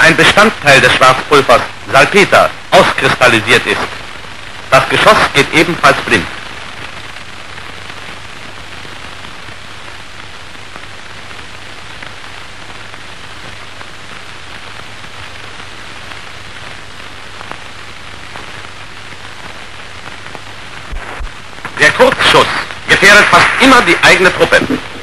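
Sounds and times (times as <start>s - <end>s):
film soundtrack hiss and crackle: 0.0s - 25.0s.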